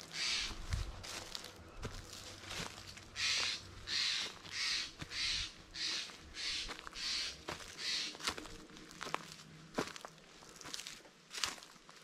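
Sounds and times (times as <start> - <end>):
footsteps crunching on a trail: 0.0 - 12.0.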